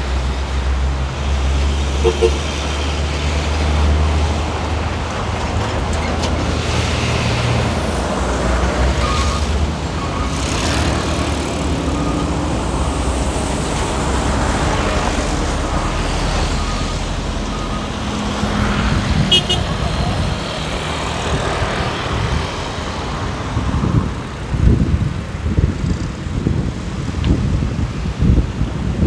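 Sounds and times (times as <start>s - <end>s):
engine and tyre rumble: 0.0s - 29.0s
vehicles passing: 0.0s - 29.0s.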